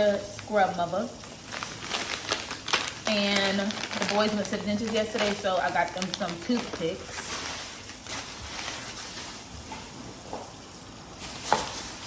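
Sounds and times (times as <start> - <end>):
shopping bags rustling: 0.6 - 10.0, 11.2 - 12.0.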